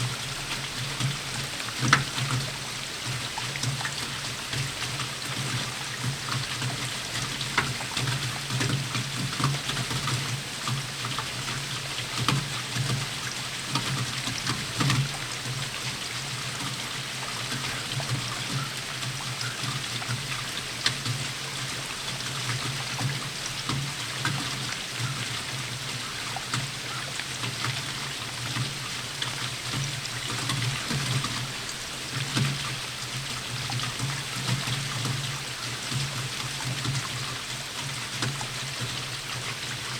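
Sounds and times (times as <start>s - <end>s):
rain drops ticking: 0.0s - 39.9s
water trickling and pouring: 0.0s - 39.9s.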